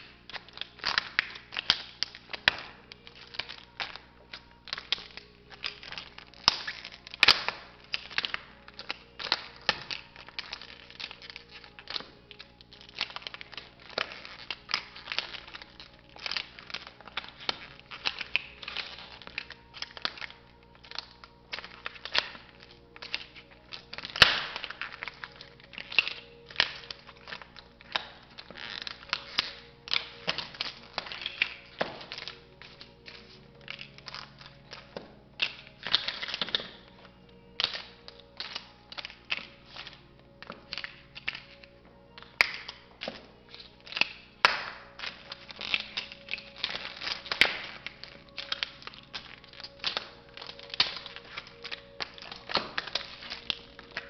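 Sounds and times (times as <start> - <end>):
faint background music: 0.0 - 54.0
plastic toy cracking under heels: 0.0 - 54.0.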